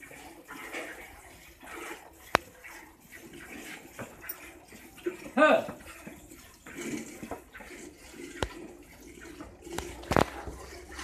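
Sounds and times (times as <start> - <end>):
milk squirting into steel pail: 0.0 - 11.0.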